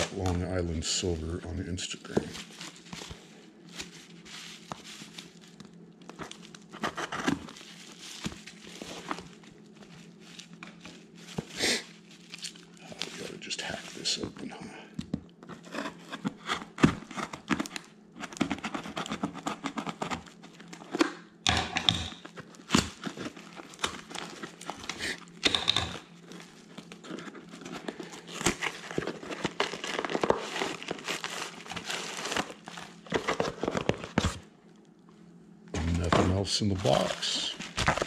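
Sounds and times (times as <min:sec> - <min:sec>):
packaging crinkling and rustling: 0:00.0 - 0:21.1, 0:22.1 - 0:34.5, 0:35.8 - 0:38.0.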